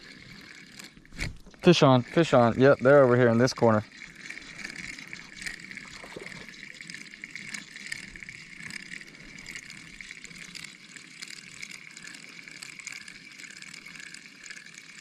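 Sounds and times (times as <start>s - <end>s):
water splashing and churning: 0.0s - 15.0s.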